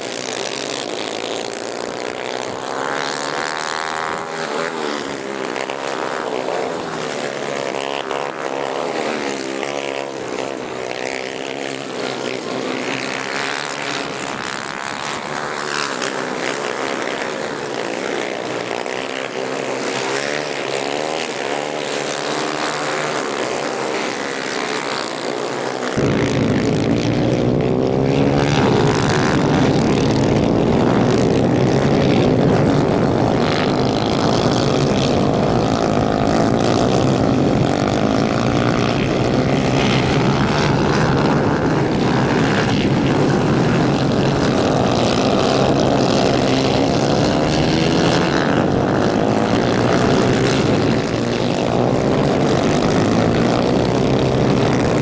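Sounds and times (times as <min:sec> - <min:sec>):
racing kart engines revving: 0:00.0 - 0:55.0.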